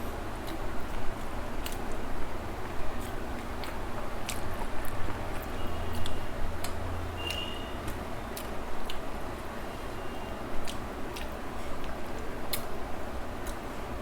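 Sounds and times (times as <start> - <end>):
person chewing food: 0.4 - 9.5, 10.6 - 13.8.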